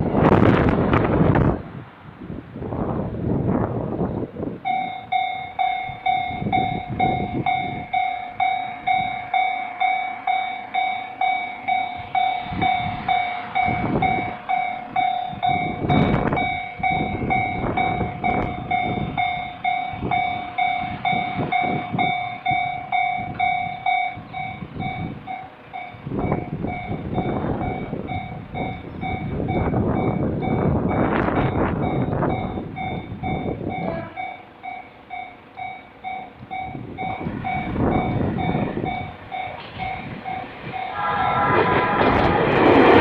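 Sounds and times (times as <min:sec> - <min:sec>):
gusty rumbling noise: 0:00.0 - 0:10.8, 0:11.7 - 0:25.3, 0:26.0 - 0:34.2, 0:36.4 - 0:43.0
level crossing warning bell: 0:04.6 - 0:41.6.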